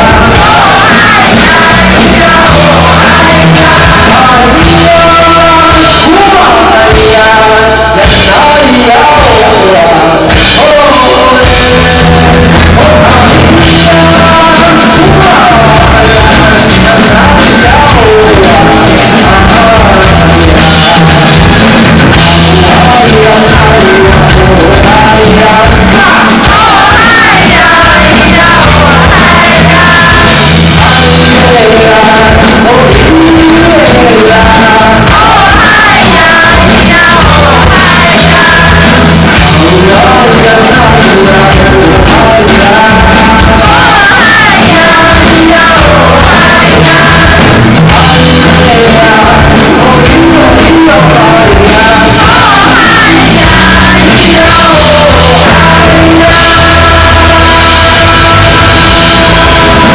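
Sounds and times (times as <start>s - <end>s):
man singing into a microphone: 0.0s - 59.9s.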